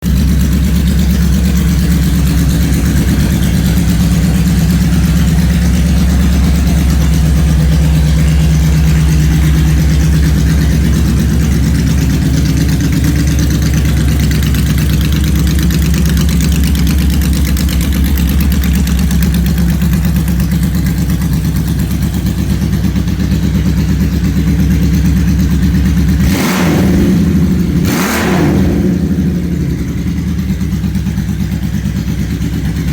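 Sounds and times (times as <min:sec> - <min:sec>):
motorcycle engine idling: 0:00.0 - 0:32.9
motorcycle throttle blips: 0:00.1 - 0:32.9.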